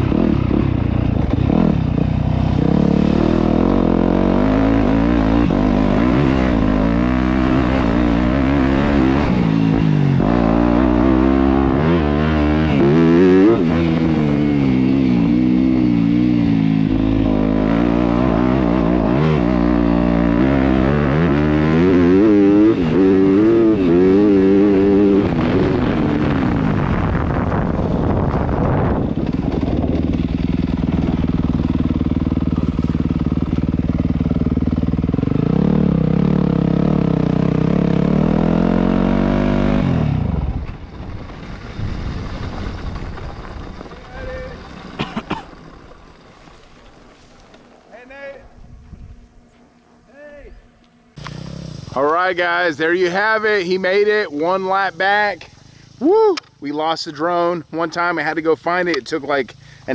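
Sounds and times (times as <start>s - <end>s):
dirt bike engine revving: 0.0s - 48.2s, 48.8s - 56.1s.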